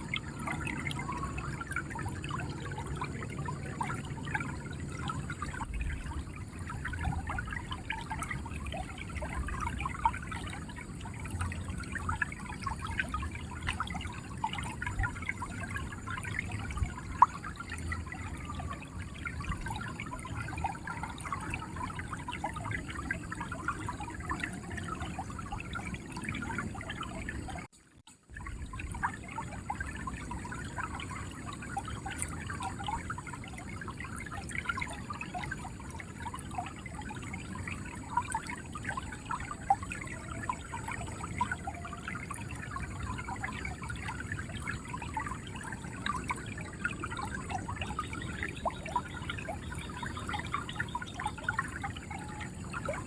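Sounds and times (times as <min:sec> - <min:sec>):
river water gurgling: 0:00.0 - 0:53.0.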